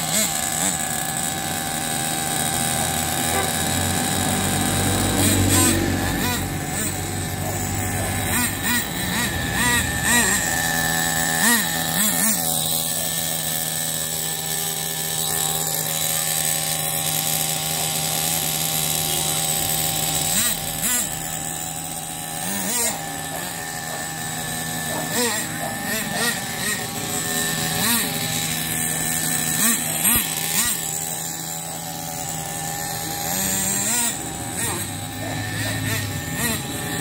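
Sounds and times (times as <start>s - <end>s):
model engine idling: 0.0s - 37.0s.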